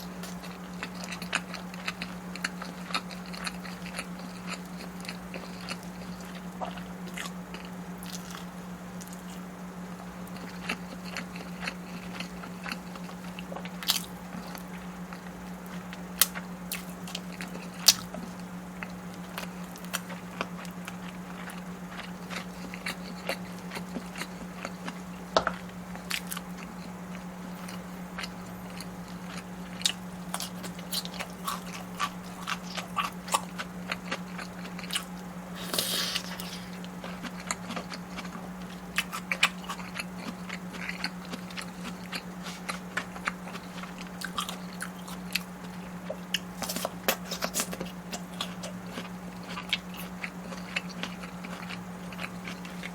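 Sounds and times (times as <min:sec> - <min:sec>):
person biting and chewing: 0:00.0 - 0:09.4, 0:10.3 - 0:52.9
steady low hum: 0:00.0 - 0:52.9.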